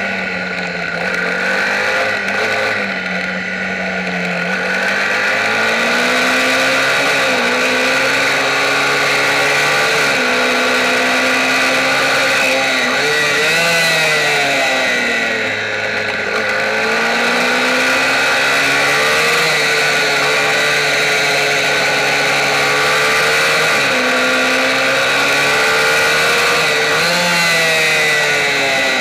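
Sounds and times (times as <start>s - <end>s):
small motorbike engine revving high: 0.0s - 29.0s.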